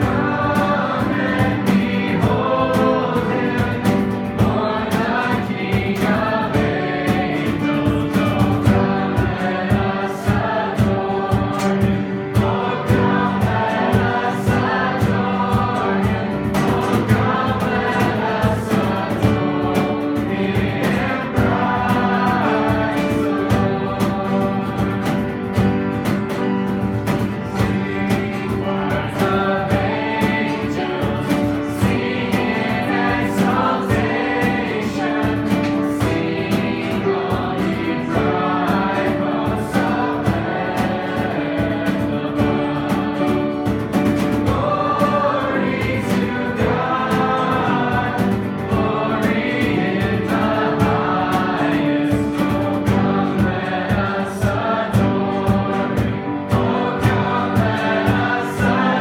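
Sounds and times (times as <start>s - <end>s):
held chords: 0.0s - 59.0s
rhythmic accompaniment: 0.0s - 59.0s
voices singing together: 0.0s - 59.0s.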